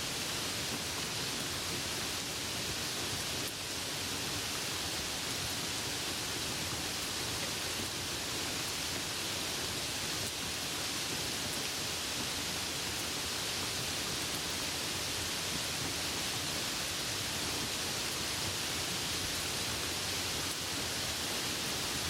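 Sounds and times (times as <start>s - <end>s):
soft rain hiss: 0.0s - 22.0s.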